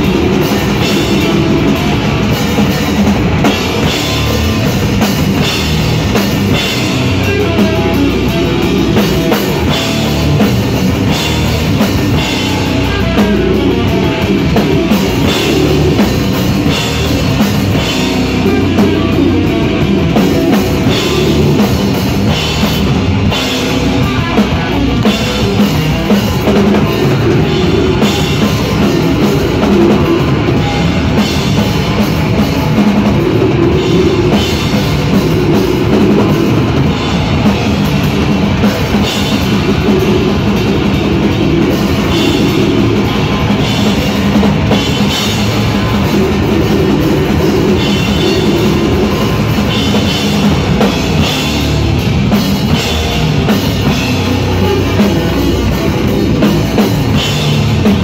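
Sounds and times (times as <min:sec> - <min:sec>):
distorted electric guitars: 0:00.0 - 0:58.0
drum kit: 0:00.0 - 0:58.0.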